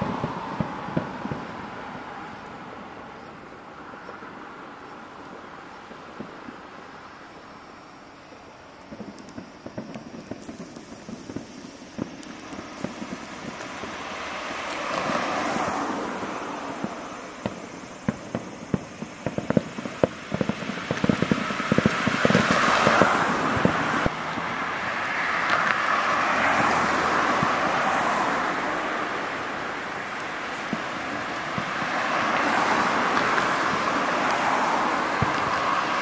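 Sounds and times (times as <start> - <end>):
rushing noise: 0.0 - 5.0, 9.0 - 36.0
fireworks crackling pops: 0.0 - 36.0.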